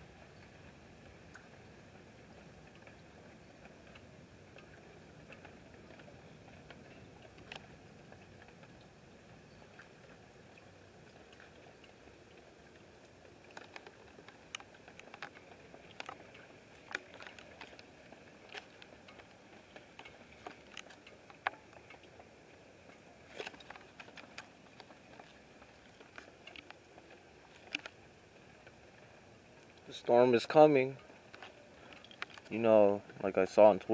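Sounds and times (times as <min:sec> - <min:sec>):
steady low hiss: 0:00.0 - 0:33.9.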